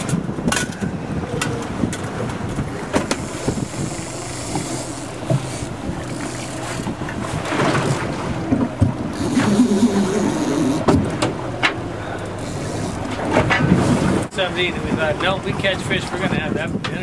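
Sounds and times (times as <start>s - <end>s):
boat engine running: 0.0s - 17.0s
wind noise on microphone: 0.0s - 17.0s.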